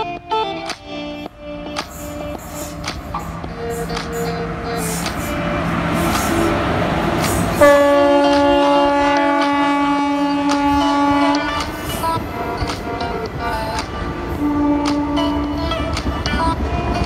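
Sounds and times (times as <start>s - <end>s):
locomotive horn blast: 0.0s - 17.0s
train passing: 0.0s - 17.0s.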